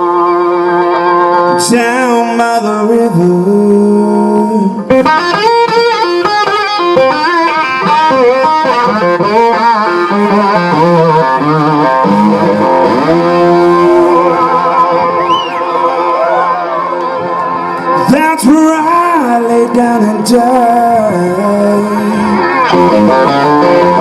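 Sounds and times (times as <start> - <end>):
person singing: 0.0 - 5.7, 6.9 - 16.6, 17.8 - 24.0
blues-rock band playing: 0.0 - 24.0
lead electric guitar: 0.0 - 24.0.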